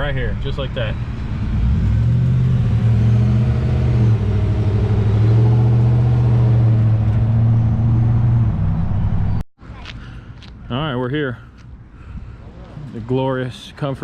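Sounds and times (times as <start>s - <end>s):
truck engine and road hum: 0.0s - 14.0s.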